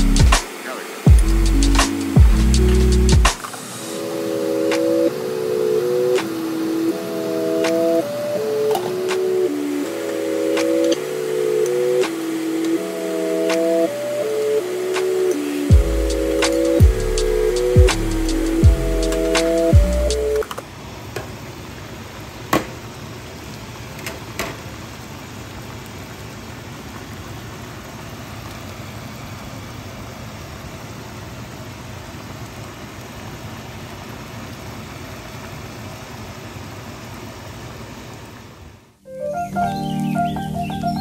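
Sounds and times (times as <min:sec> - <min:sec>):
pot simmering hiss: 0:00.0 - 0:39.0.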